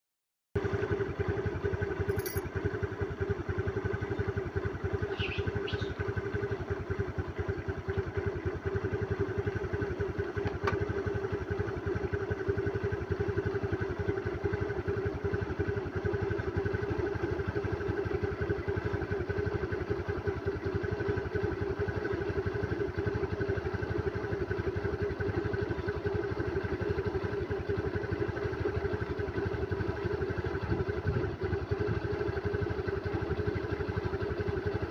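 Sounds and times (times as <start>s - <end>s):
engine idling: 0.6s - 34.9s.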